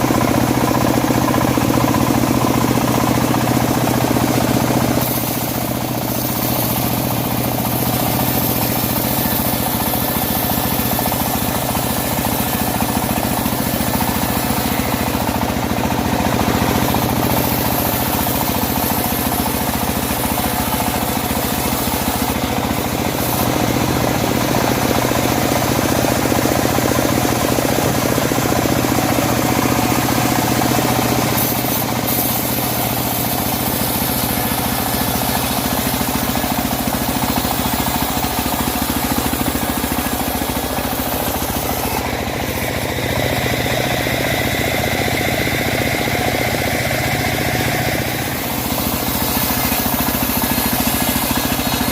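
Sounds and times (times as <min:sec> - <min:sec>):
sawmill engine drone: 0:00.0 - 0:51.9.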